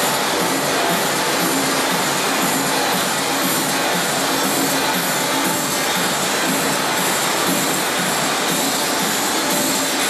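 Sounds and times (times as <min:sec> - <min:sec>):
faint music beat: 0:00.0 - 0:10.0.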